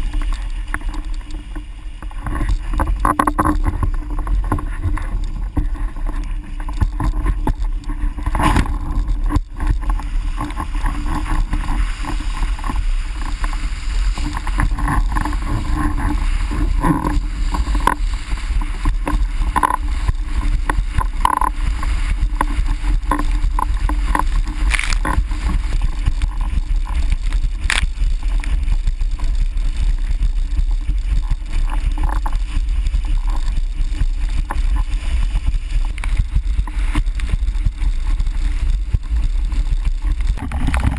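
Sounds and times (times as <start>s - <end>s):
water rushing along hull: 0.0s - 40.9s
wind rumble on microphone: 0.0s - 40.9s.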